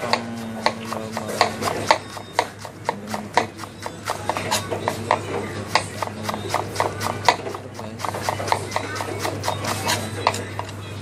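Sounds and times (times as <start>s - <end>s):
knife chopping on cutting board: 0.0s - 10.4s.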